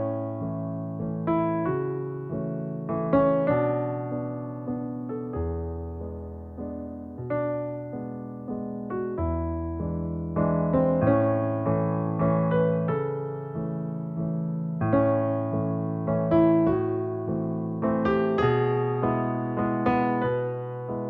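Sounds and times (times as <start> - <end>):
solo piano melody: 0.0 - 21.0.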